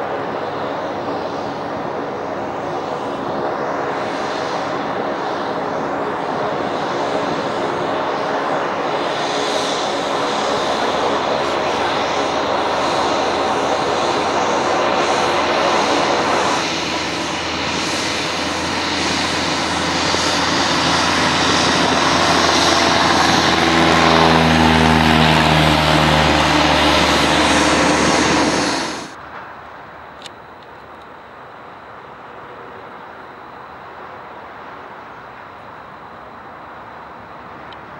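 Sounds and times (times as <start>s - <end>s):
propeller aircraft engine: 0.0s - 37.9s.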